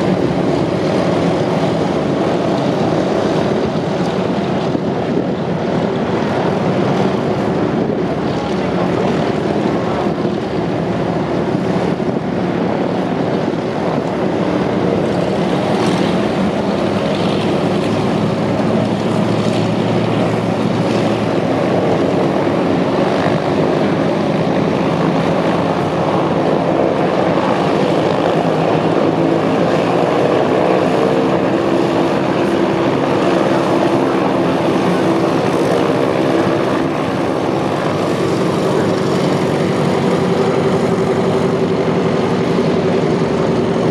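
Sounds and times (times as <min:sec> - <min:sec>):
propeller plane engines droning: 0:00.0 - 0:43.9.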